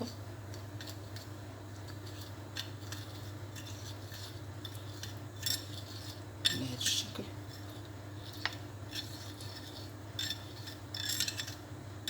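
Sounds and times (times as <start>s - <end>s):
steady low hum: 0.0s - 12.0s
spoon clinking and scraping: 2.0s - 11.6s.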